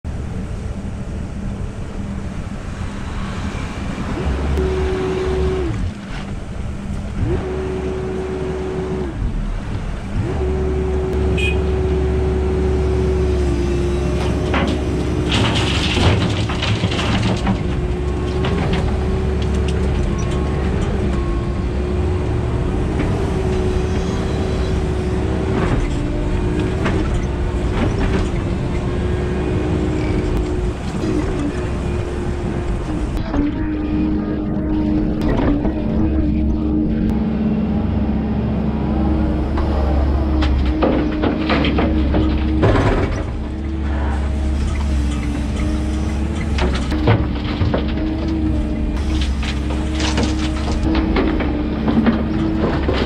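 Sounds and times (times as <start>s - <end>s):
excavator diesel engine running: 0.1s - 53.0s
hydraulic whine: 2.6s - 15.6s, 18.0s - 53.0s.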